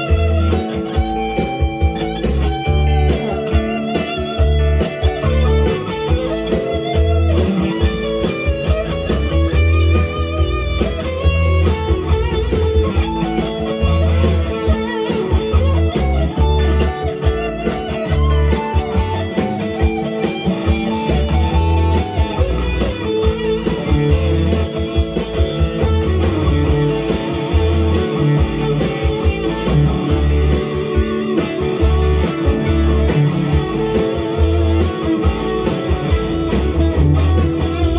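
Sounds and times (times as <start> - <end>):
electric guitar through amplifier: 0.0 - 37.9.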